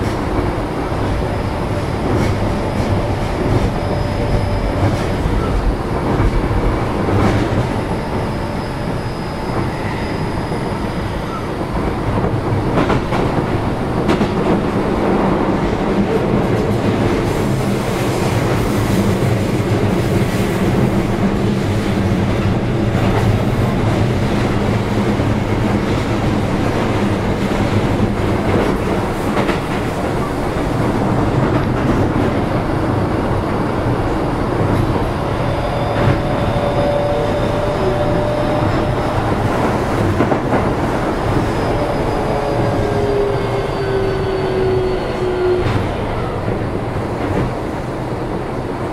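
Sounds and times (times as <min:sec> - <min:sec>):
train wheels rolling with hum: 0:00.0 - 0:48.9.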